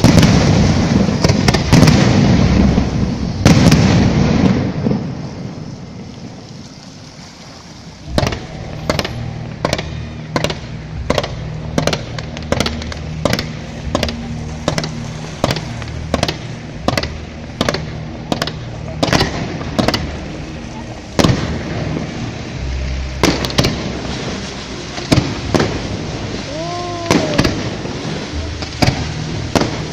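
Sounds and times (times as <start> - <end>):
fireworks banging: 0.0 - 6.6, 8.0 - 29.9.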